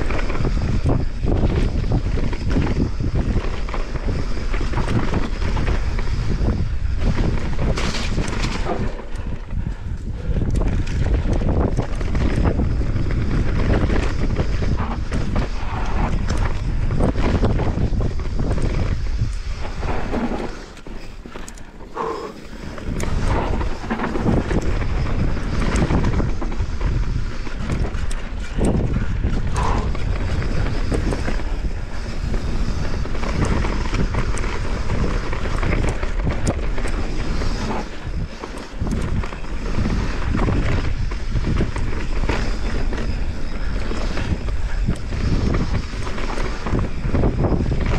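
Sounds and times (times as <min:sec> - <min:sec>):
mountain bike rattling over rough ground: 0:00.0 - 0:47.9
wind buffeting microphone: 0:00.0 - 0:47.9.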